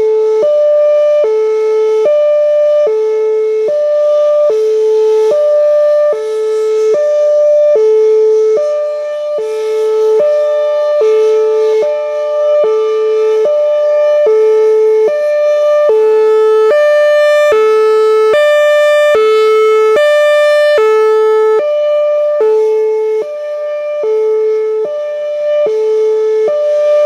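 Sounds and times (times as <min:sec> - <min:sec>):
two-tone warning siren: 0:00.0 - 0:27.0.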